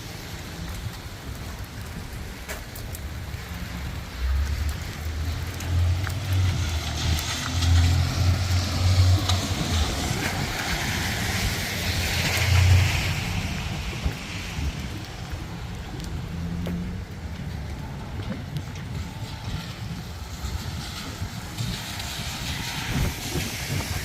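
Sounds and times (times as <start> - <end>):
rain hiss: 0.0 - 24.0
heavy low rumble: 0.4 - 24.0.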